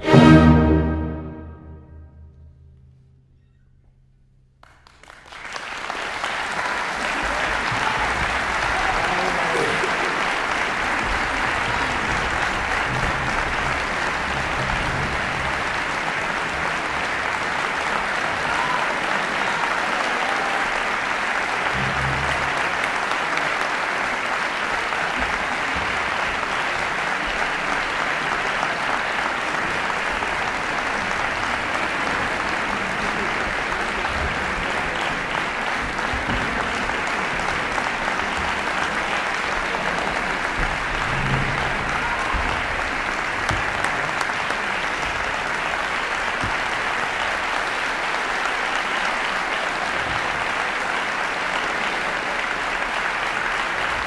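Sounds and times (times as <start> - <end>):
audience applauding: 4.6 - 54.0.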